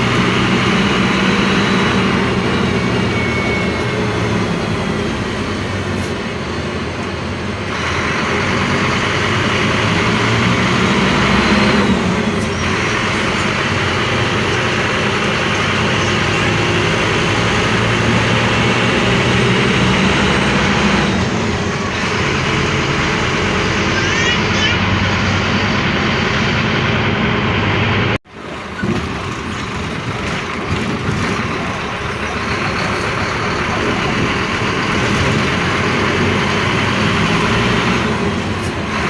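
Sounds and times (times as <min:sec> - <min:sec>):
bus engine hum: 0:00.0 - 0:39.0.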